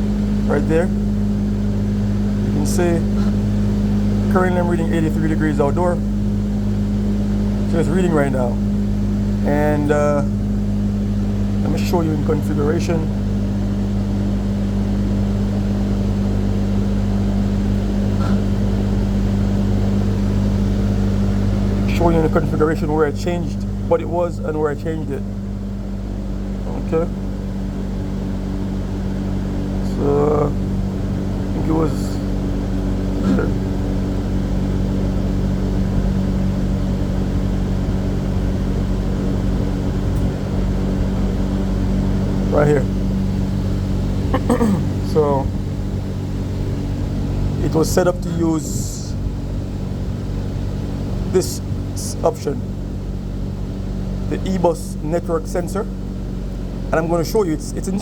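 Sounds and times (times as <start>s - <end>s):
air conditioning unit humming: 0.0s - 58.0s.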